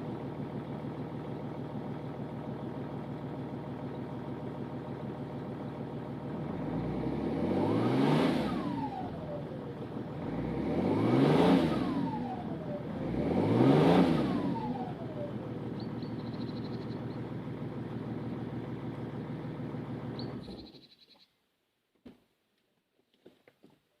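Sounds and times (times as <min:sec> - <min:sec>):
diesel engine idling and revving: 0:00.0 - 0:21.0.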